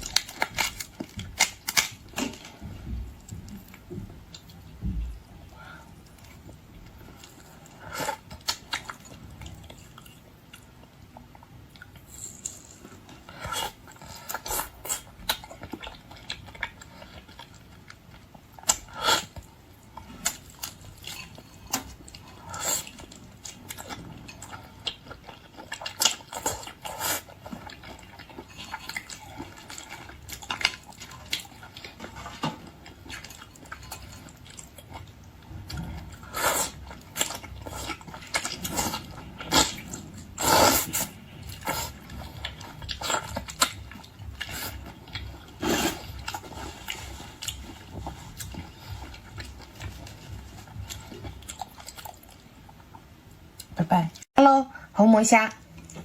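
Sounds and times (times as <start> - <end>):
person chewing shrimp: 0.0 - 4.7, 5.4 - 53.7.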